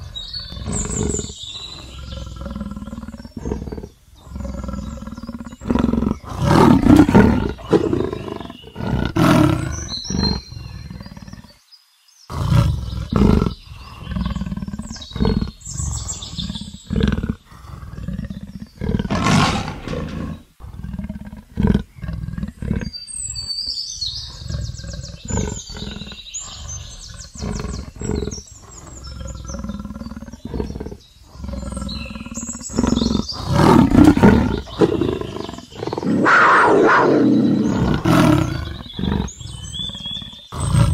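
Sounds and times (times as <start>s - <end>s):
leopard roaring and growling: 0.0s - 11.6s, 12.3s - 40.9s.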